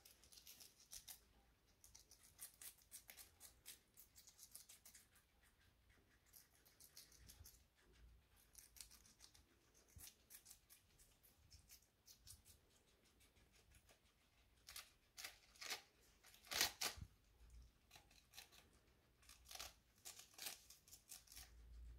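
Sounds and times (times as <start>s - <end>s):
guinea pigs crunching lettuce: 0.0s - 21.9s.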